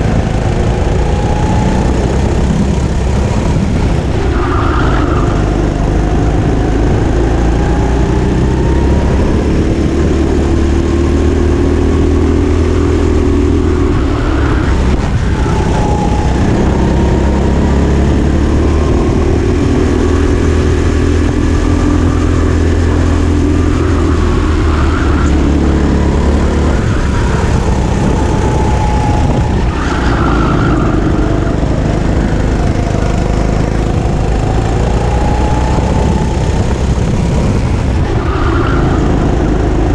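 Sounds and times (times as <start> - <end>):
go-kart engine accelerating: 0.0 - 39.9.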